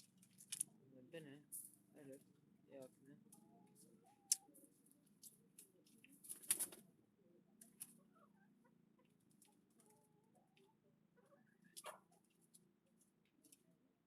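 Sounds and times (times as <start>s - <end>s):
faint low hum: 0.0s - 14.0s
pigeons pecking grain: 0.0s - 14.0s.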